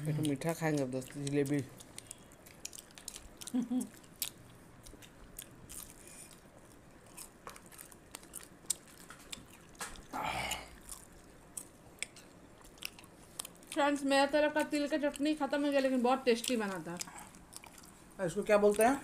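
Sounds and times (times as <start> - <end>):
crunchy food chewing: 0.1 - 19.0.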